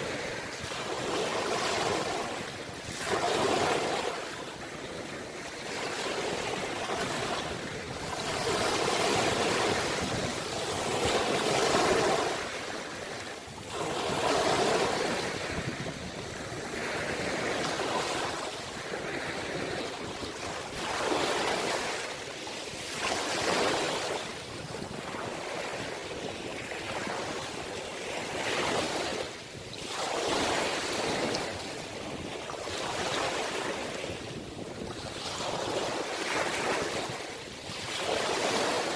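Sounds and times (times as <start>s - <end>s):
ocean waves breaking: 0.0s - 38.9s
wind: 0.0s - 38.9s.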